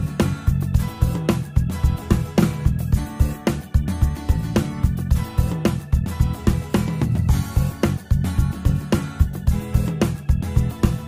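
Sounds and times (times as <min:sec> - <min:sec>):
music with plucked strings: 0:00.0 - 0:11.0.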